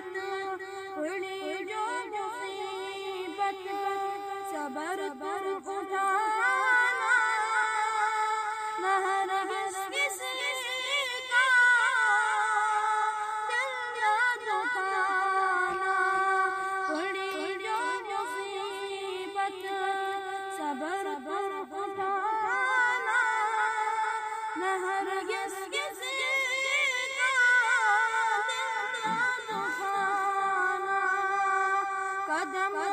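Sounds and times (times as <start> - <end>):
boy singing unaccompanied: 0.0 - 32.9.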